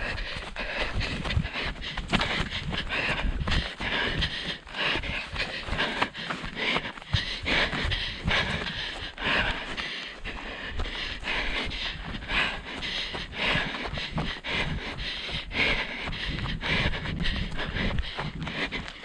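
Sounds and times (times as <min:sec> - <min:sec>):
runner panting: 0:00.0 - 0:19.0
running footsteps: 0:00.0 - 0:19.0.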